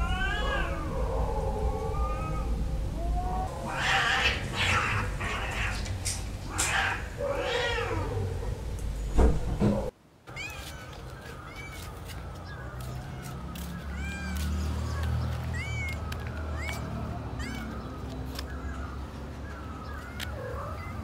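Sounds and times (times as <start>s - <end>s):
cats hissing: 0.0s - 8.7s, 9.7s - 21.0s
cats yowling: 0.0s - 8.7s, 9.7s - 21.0s.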